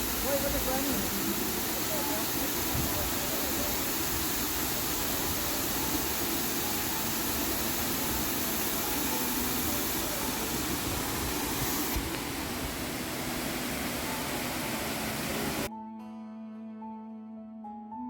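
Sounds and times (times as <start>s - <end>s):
steady rushing noise: 0.0s - 15.7s.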